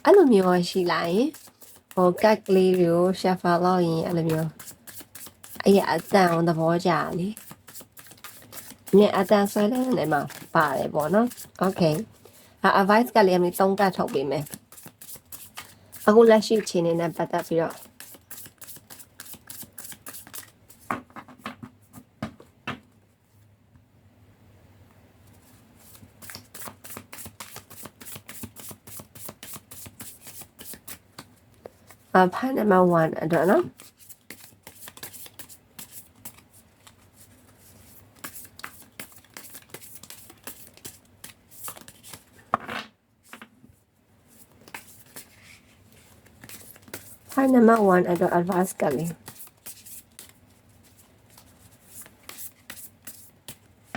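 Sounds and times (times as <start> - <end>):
cards shuffled by hand: 0.2 - 2.8, 3.9 - 12.2, 13.9 - 21.5, 25.4 - 32.0, 33.4 - 42.4, 44.3 - 53.9.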